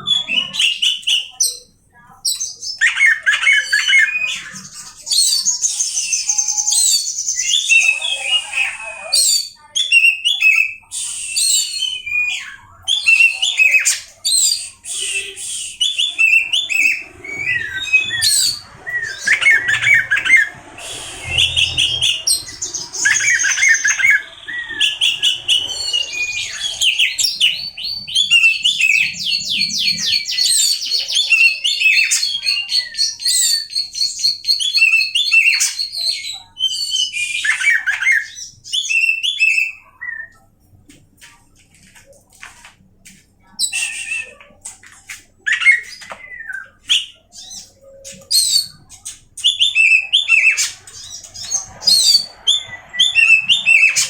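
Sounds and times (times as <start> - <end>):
songbird singing whistled phrases: 2.2 - 40.4, 43.6 - 44.6, 45.5 - 54.0.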